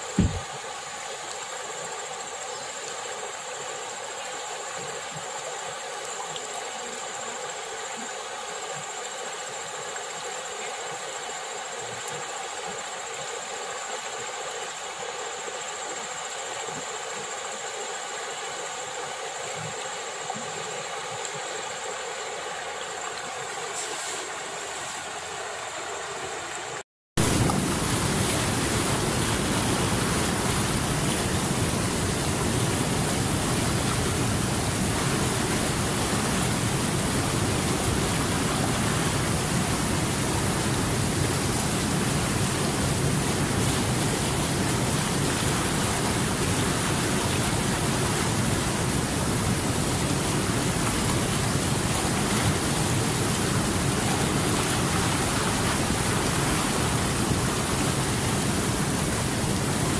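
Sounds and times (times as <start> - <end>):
calm river flowing: 0.0 - 59.9
water rushing over rapids: 0.0 - 59.9.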